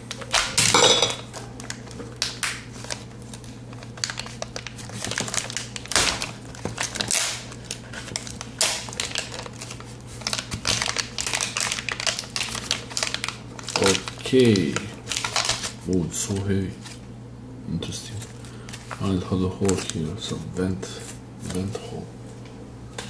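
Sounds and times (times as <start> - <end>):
plastic bag crinkling: 0.1 - 17.0, 18.2 - 20.4.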